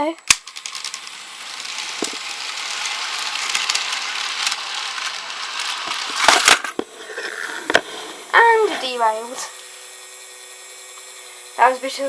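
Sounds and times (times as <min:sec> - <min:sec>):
toy locomotive motor rattling: 0:00.0 - 0:12.0.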